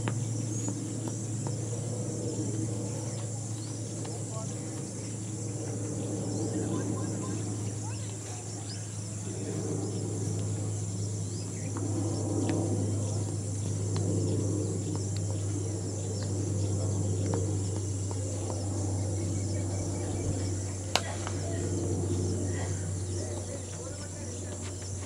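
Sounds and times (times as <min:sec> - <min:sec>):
insects chirring: 0:00.0 - 0:25.0
low steady hum: 0:00.0 - 0:25.0.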